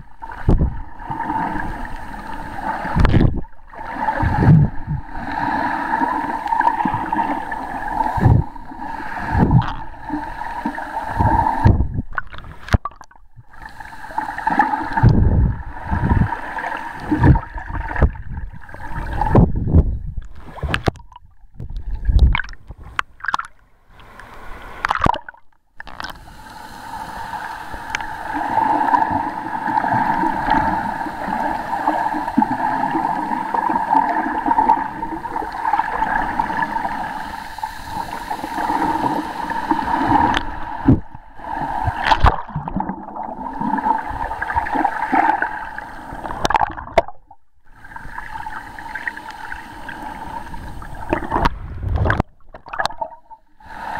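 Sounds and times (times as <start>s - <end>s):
muffled underwater sloshing and gurgling: 0.0s - 53.9s
steady underwater hum: 0.0s - 53.9s.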